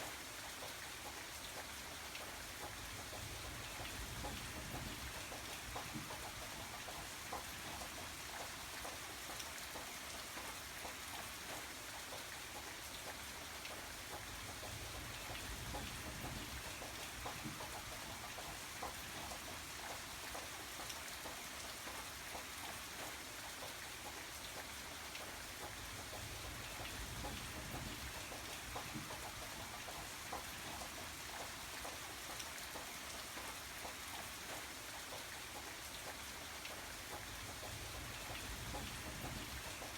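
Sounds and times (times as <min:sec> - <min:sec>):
raindrops pattering: 0:00.0 - 0:39.9
steady rain hiss: 0:00.0 - 0:39.9.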